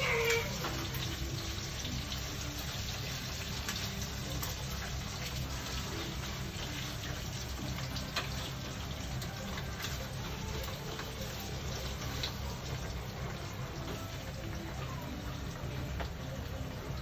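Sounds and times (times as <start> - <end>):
bacon sizzling in a frying pan: 0.0 - 17.0.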